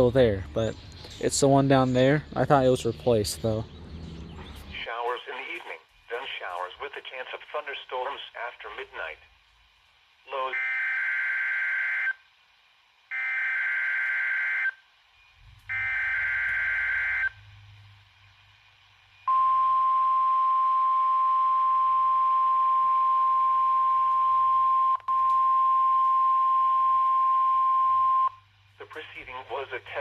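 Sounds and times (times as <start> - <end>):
steady warning alarm tone: 0.0 - 5.6, 10.3 - 12.4, 13.1 - 30.0.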